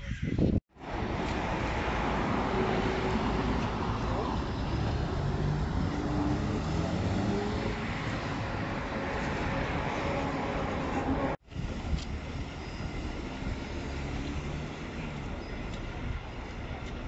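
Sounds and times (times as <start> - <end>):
city street traffic hum: 0.1 - 17.0.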